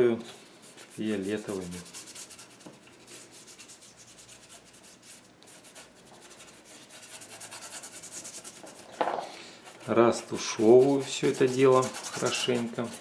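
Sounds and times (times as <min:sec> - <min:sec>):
paintbrush scrubbing paint: 0:00.3 - 0:08.9, 0:09.6 - 0:13.0.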